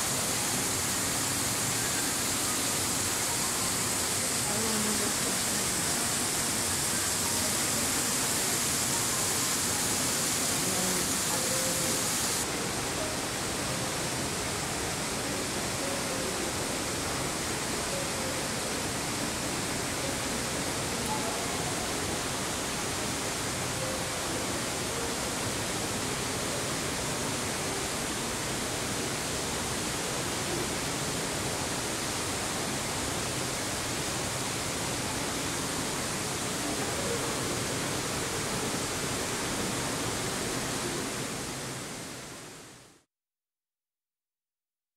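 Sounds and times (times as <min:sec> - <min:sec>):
waterfall hissing: 0:00.0 - 0:42.8.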